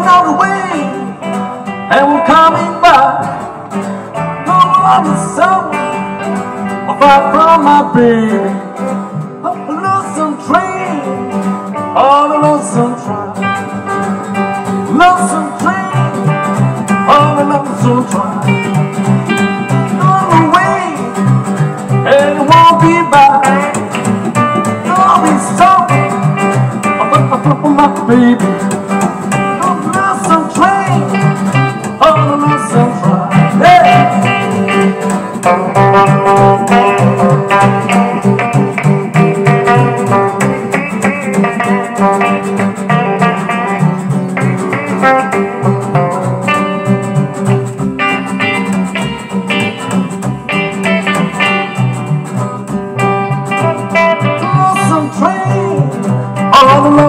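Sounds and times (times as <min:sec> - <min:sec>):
lead guitar with bent notes: 0:00.0 - 0:57.0
plucked double bass: 0:00.0 - 0:57.0
rhythm guitar: 0:00.0 - 0:57.0.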